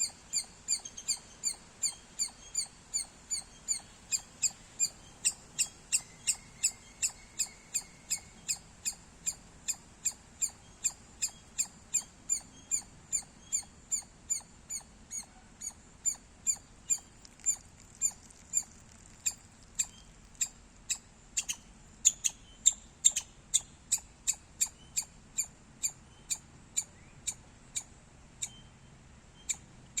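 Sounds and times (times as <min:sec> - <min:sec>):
squirrel chirping: 0:00.0 - 0:28.6, 0:29.4 - 0:30.0.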